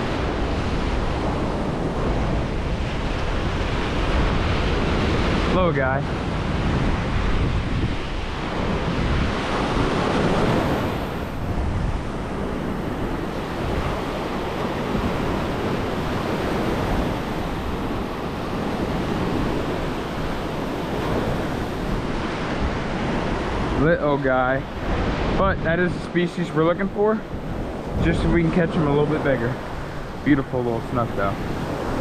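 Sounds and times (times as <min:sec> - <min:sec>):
ocean surf breaking: 0:00.0 - 0:32.0
wind rumbling on microphone: 0:00.0 - 0:32.0.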